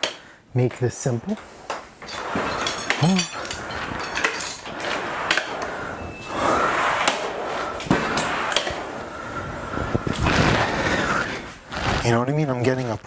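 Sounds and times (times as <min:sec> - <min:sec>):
metal scraping: 0:01.0 - 0:12.2.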